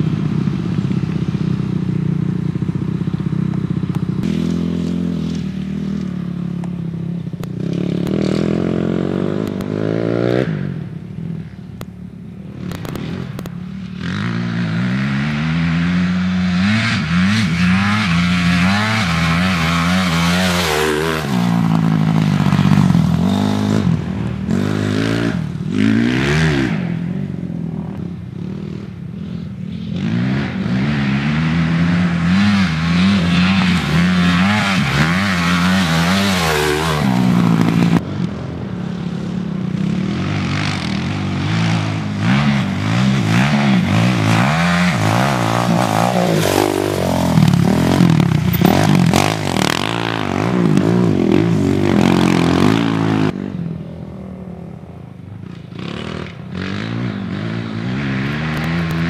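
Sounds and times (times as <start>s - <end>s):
dirt bike passing at speed: 0.0s - 11.7s, 12.4s - 59.0s
dirt bike engines revving: 0.0s - 59.0s.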